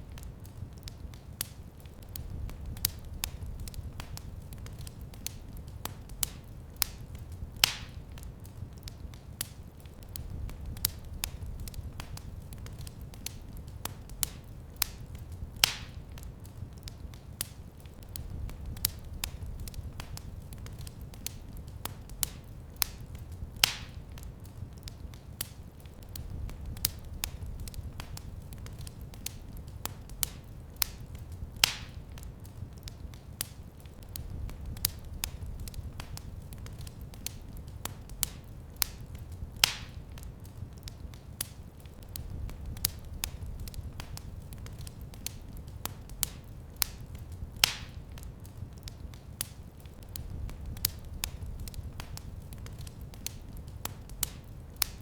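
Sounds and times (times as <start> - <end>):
fire crackling: 0.0 - 55.0
loud fire pops: 0.1 - 55.0.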